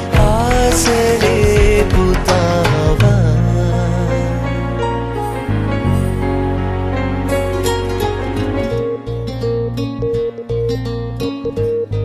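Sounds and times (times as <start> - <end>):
instrumental film song: 0.0 - 12.0
steady bass line: 0.0 - 12.0.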